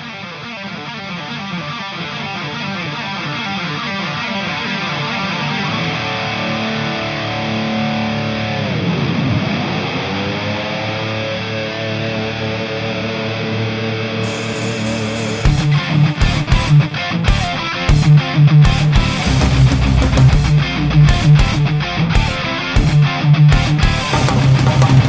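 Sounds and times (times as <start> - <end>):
distorted electric guitar: 0.0 - 25.0.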